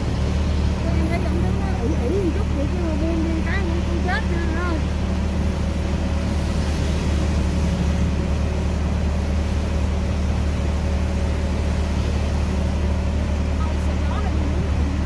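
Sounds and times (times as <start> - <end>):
fire truck engine droning: 0.0 - 15.0.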